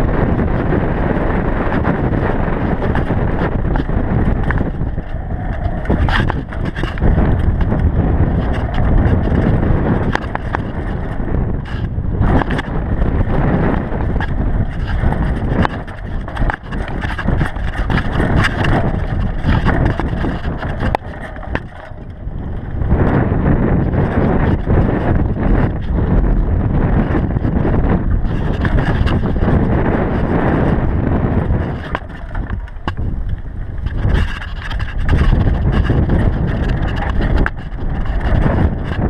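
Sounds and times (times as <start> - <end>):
bike knocks and rattles: 0.0 - 39.0
wind noise on microphone: 0.0 - 39.0
tyres rolling on dirt and stones: 0.3 - 39.0.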